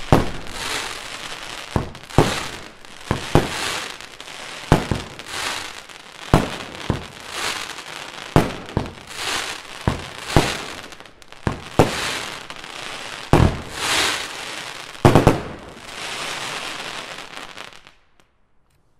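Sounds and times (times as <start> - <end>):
fireworks bangs: 0.0 - 17.9.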